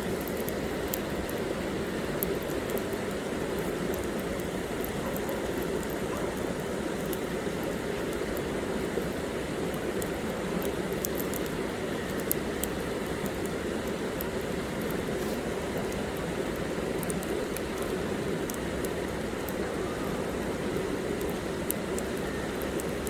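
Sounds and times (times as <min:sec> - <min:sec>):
rush of flame: 0:00.0 - 0:23.0
wood crackling and popping: 0:00.0 - 0:23.0.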